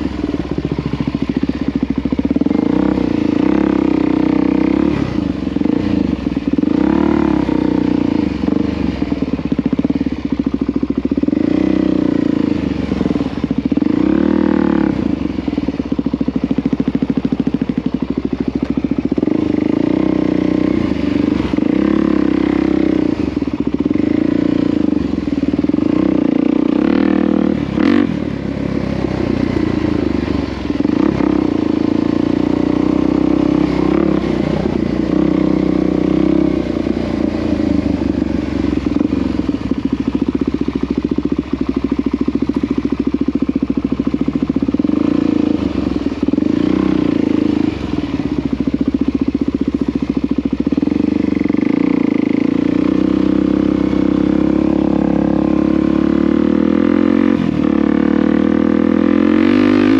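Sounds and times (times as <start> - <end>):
small vehicle engine running: 0.0 - 59.9.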